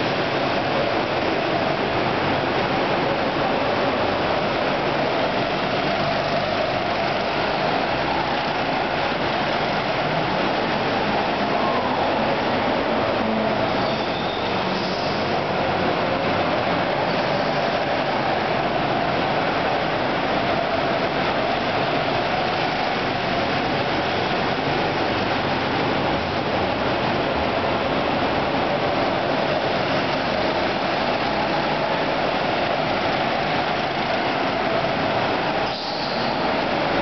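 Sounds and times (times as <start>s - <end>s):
go-kart engines droning: 0.0s - 37.0s.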